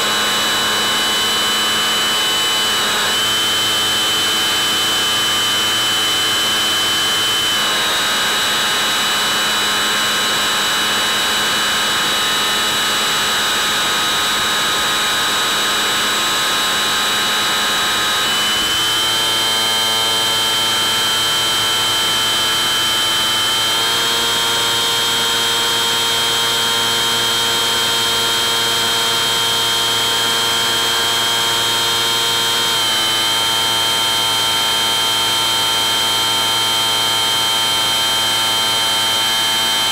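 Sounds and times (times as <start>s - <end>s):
model plane motor whining: 0.0s - 39.9s.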